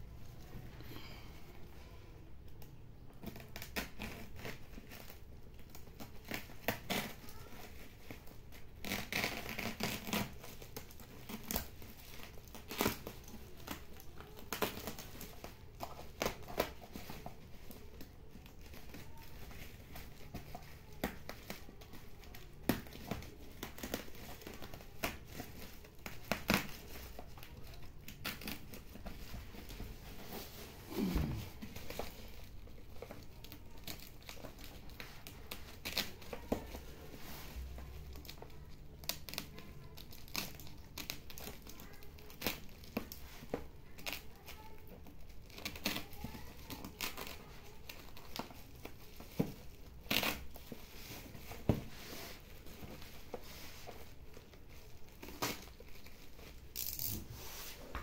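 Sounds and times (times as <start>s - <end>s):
plastic wrap crinkling and tearing: 0.1s - 58.0s.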